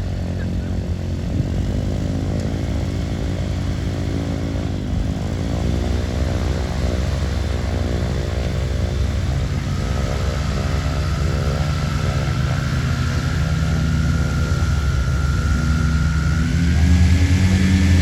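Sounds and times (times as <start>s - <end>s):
propeller aircraft engine drone: 0.0s - 18.0s.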